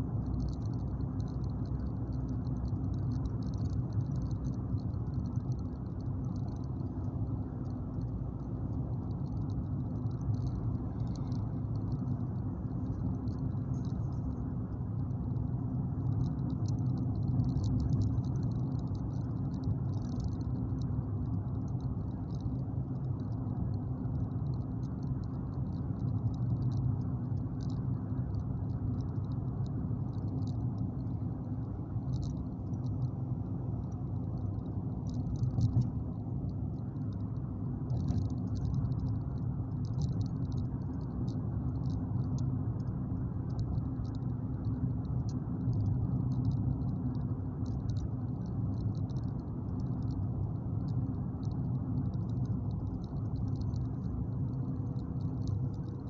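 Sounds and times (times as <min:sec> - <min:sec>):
engine and tyres rumbling: 0:00.0 - 0:56.0
faint crackling ticks: 0:00.0 - 0:56.0.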